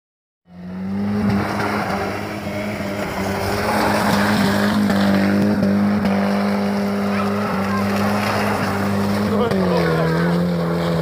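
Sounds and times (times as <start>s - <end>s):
car engine revving: 0.5s - 11.0s
gravel spraying from tyres: 0.6s - 11.0s.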